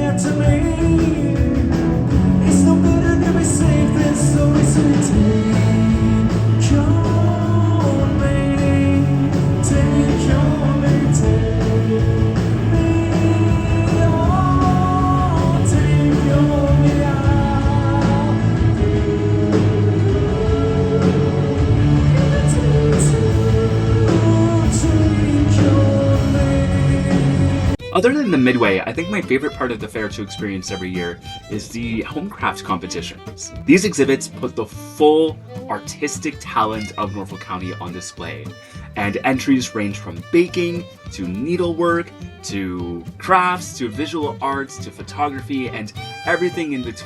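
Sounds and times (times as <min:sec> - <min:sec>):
rock song with singing: 0:00.0 - 0:47.0.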